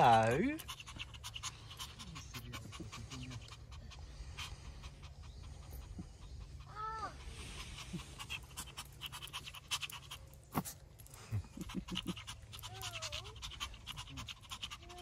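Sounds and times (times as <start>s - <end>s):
dog panting rapidly: 0.0s - 15.0s.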